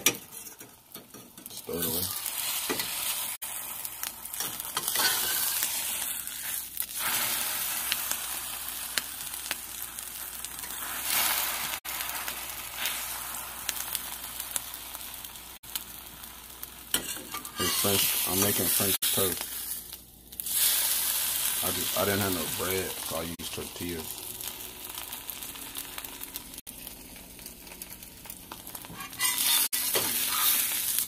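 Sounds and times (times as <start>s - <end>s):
food sizzling in a pan: 1.5s - 31.0s.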